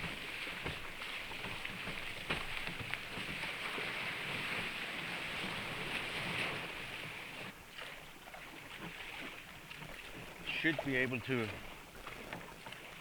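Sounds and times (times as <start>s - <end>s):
surf and rushing water: 0.0s - 13.0s.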